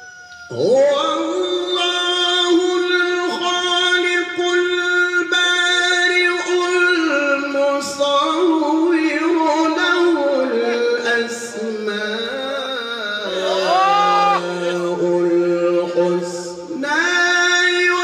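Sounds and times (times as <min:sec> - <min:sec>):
man chanting recitation: 0:00.5 - 0:18.0.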